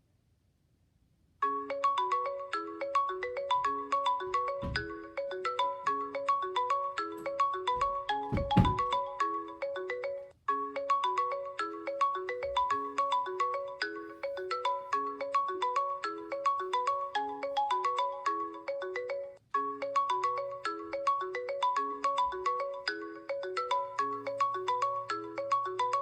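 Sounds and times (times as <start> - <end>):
looping ringtone melody: 1.4 - 26.0.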